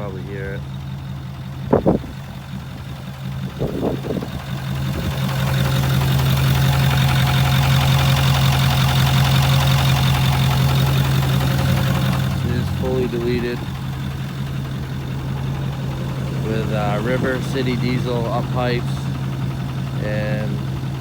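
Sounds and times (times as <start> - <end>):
diesel engine idling with knock: 0.0 - 21.0.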